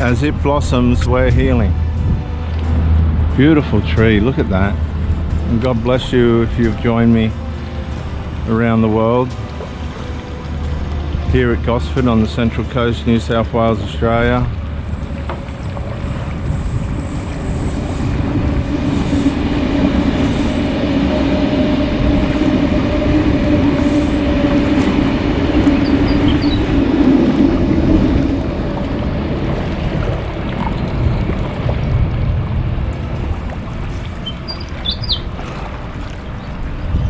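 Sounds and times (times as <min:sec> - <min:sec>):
jet ski engine drone: 0:00.0 - 0:37.0
rushing water: 0:00.0 - 0:37.0
wind: 0:00.0 - 0:37.0.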